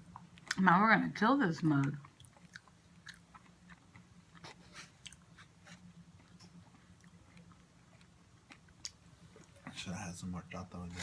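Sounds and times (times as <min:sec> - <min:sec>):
close-up chewing: 0:00.0 - 0:00.7, 0:01.6 - 0:10.0
faint low hum: 0:00.0 - 0:11.0.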